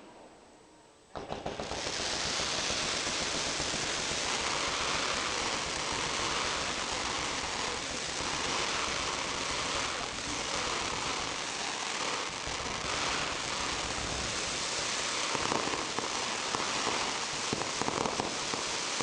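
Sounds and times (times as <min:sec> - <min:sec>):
crackling hiss of fireworks: 0:01.0 - 0:19.0
firework bang: 0:01.1 - 0:19.0.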